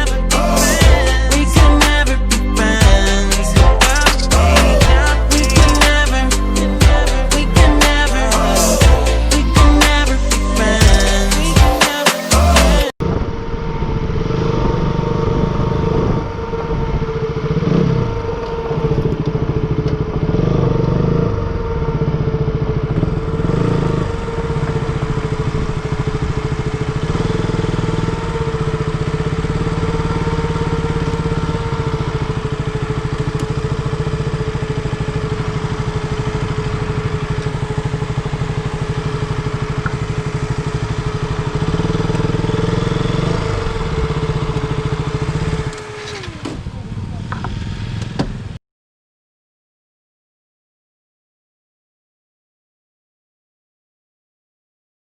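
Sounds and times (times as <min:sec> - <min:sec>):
motorcycle engine running: 0:00.0 - 0:48.6.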